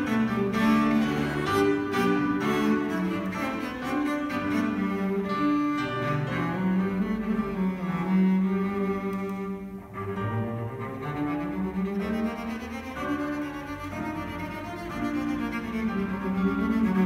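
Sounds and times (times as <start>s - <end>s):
bowed cello: 0.0s - 17.0s
piano accompaniment: 0.0s - 17.0s.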